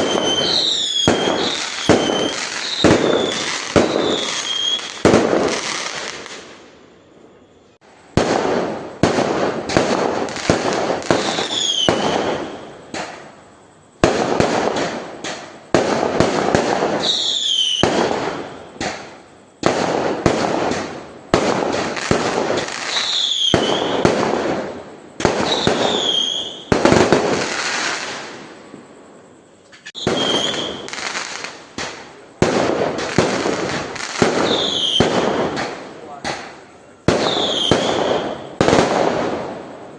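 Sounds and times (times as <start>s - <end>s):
fireworks bangs and crackle: 0.0s - 6.8s, 7.7s - 39.9s
falling firework whistles: 0.0s - 39.9s.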